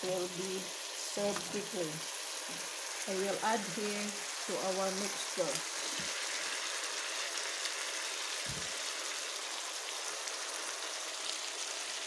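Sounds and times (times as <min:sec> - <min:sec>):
potatoes sizzling in a pan: 0:00.0 - 0:12.0.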